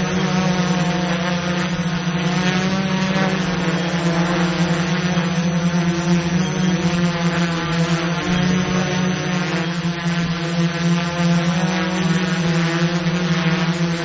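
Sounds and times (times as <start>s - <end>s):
drone buzzing hum: 0.0s - 14.0s.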